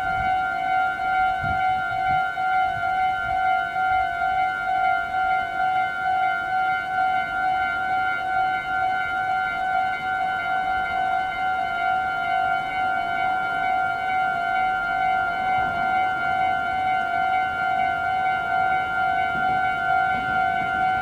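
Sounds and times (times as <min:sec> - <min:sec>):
level-crossing warning bell ringing: 0:00.0 - 0:21.0.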